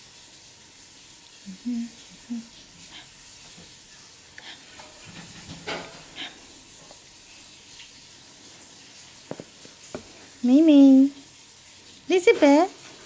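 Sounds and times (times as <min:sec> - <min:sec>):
low hiss: 0:00.0 - 0:12.7.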